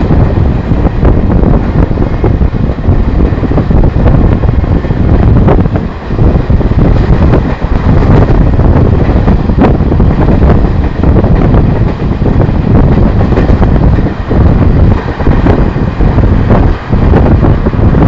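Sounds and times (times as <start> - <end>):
train rumbling on track: 0.0 - 18.0
wind buffeting microphone: 0.0 - 18.0.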